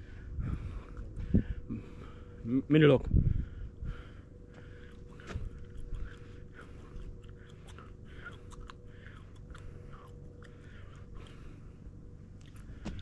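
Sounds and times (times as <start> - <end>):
thin steady hum: 0.0 - 13.0.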